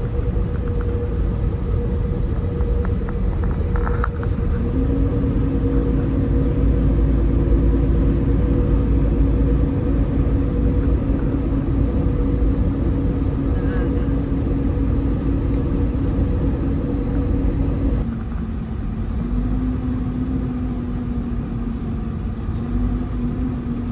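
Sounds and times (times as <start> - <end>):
diesel engine rumbling: 0.0 - 23.9
low steady tone: 0.0 - 23.9.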